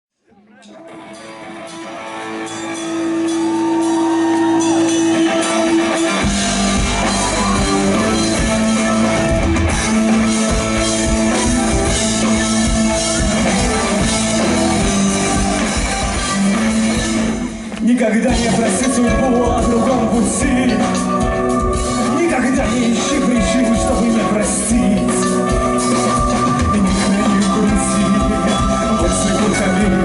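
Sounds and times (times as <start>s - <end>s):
live rock band playing: 0.5s - 30.0s
drums and bass: 0.6s - 30.0s.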